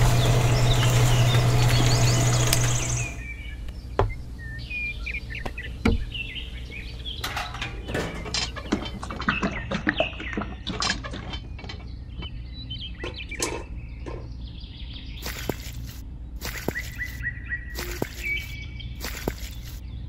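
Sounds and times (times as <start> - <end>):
steady low hum: 0.0 - 9.2, 11.6 - 20.0
small birds chirping: 0.0 - 20.0.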